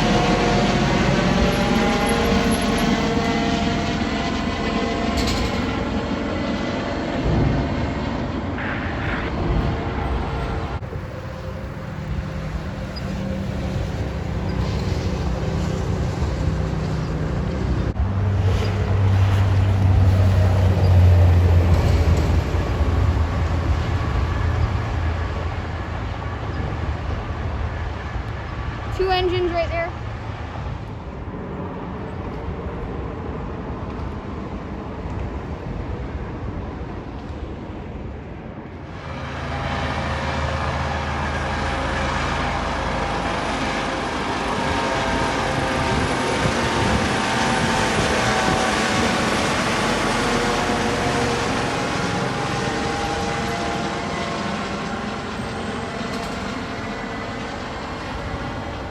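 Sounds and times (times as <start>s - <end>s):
engines humming: 0.0s - 58.9s
loud low drone: 0.0s - 58.9s.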